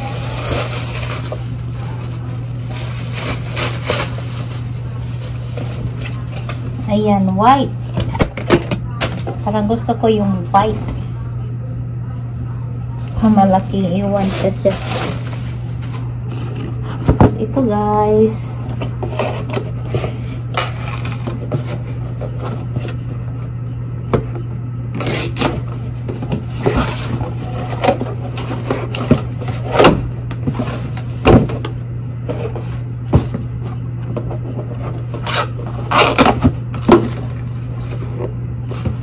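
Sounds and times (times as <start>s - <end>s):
packaging rustling and scraping: 0.0s - 7.0s, 13.4s - 23.5s, 24.3s - 39.0s.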